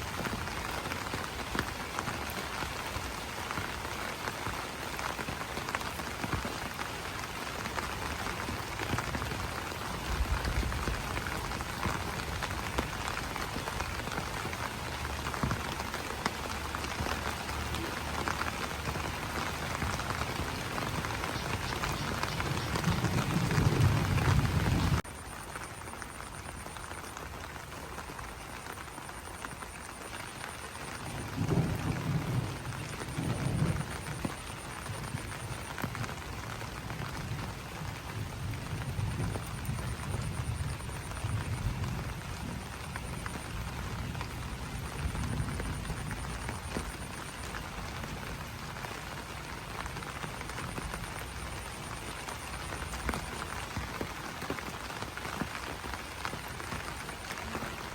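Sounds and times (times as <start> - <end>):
rain on leaves: 0.0 - 57.9.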